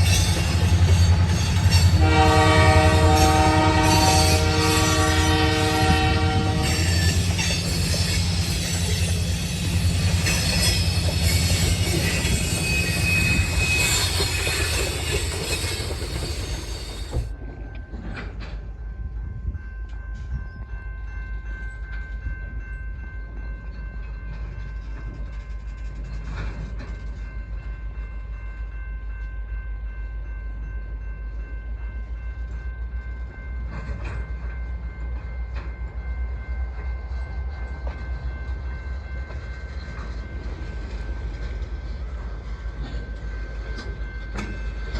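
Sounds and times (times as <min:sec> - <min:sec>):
train wheel and rail noise: 0:00.0 - 0:44.9.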